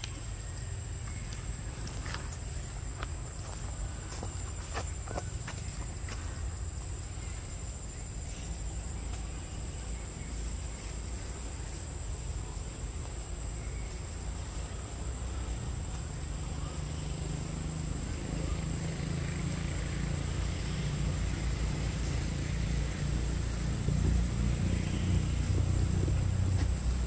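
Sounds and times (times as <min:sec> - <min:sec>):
insects whining: 0:00.0 - 0:27.0.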